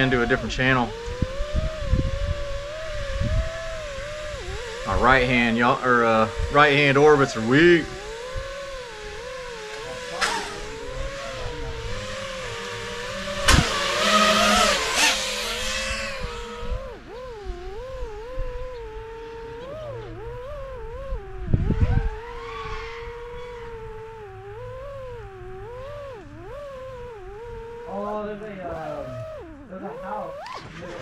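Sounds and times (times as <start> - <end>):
drone propellers whining: 0.0 - 31.0.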